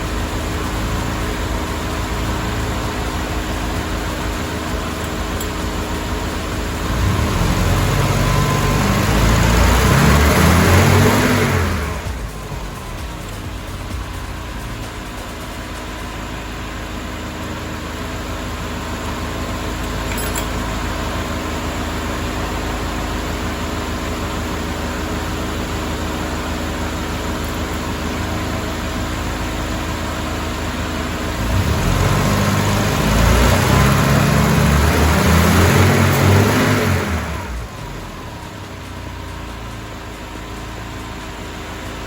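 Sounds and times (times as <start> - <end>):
car engine droning and revving: 0.0 - 42.0.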